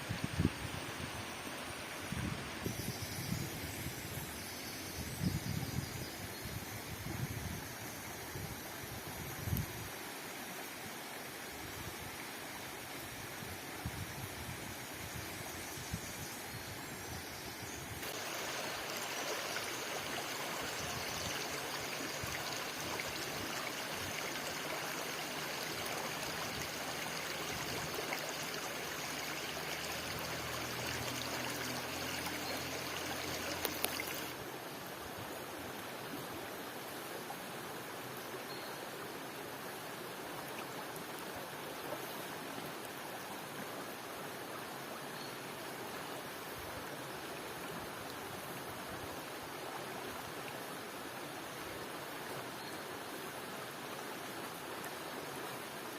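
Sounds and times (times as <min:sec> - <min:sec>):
stream water flowing: 0:00.0 - 0:55.9.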